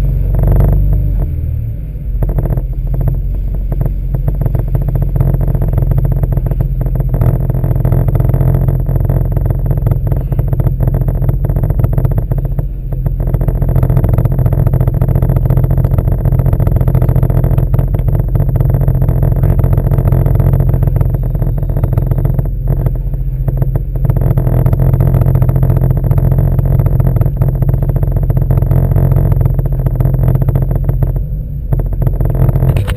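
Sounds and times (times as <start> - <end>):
watercraft engine droning: 0.0 - 32.9.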